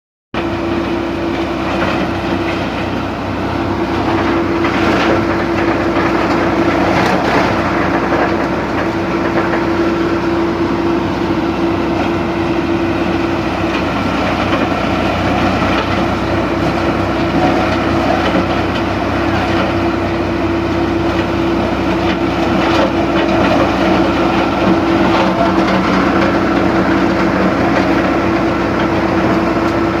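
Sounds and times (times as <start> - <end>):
wood crusher grinding: 0.4 - 30.0.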